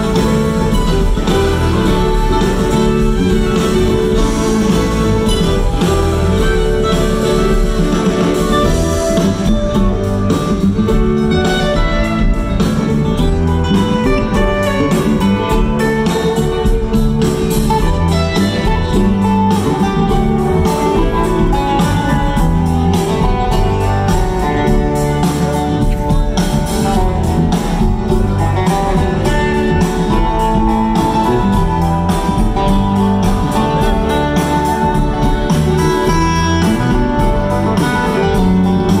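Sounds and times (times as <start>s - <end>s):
string band playing with drums: 0.0s - 39.0s.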